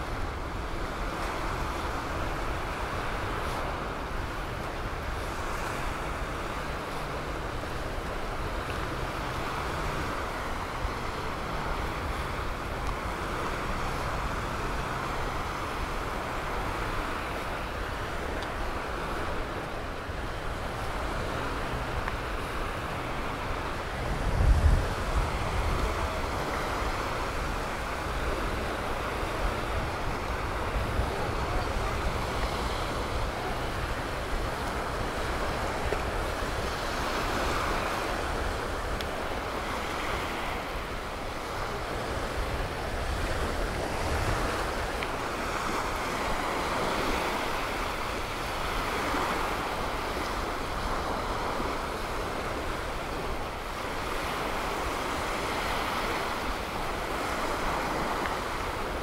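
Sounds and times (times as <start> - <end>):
surf washing onto beach: 0.0 - 59.0
wind rumbling on microphone: 0.0 - 59.0.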